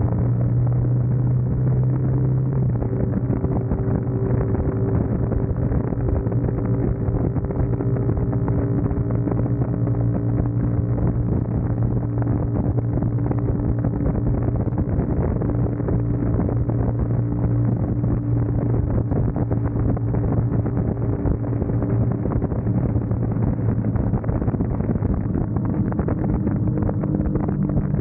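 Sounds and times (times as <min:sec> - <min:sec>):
motorcycle engine droning: 0:00.0 - 0:28.0
wind rumble on microphone: 0:00.0 - 0:28.0.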